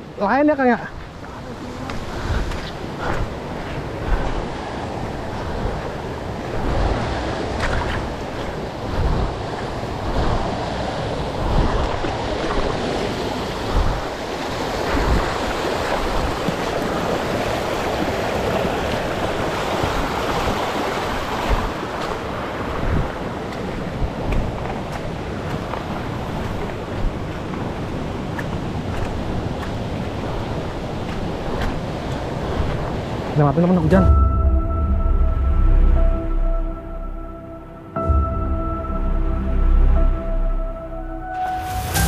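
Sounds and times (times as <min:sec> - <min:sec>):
water rushing over rocks: 0:00.0 - 0:34.0
wind buffeting microphone: 0:00.0 - 0:36.8.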